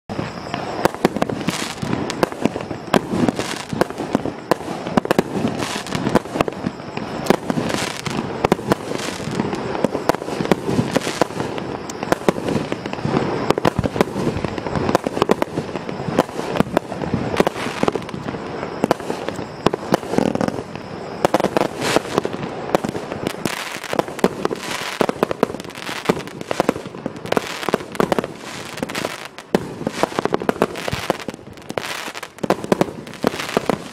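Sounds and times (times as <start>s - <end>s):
fireworks cake sharp bangs: 0.1s - 33.9s.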